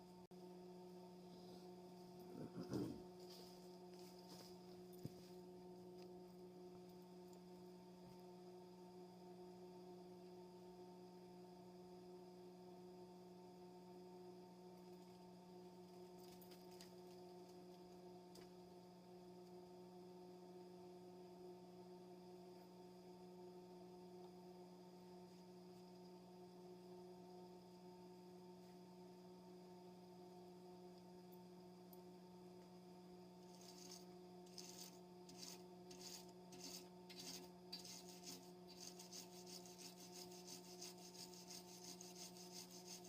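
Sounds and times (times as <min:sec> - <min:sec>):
faint electrical hum: 0:00.0 - 0:43.0.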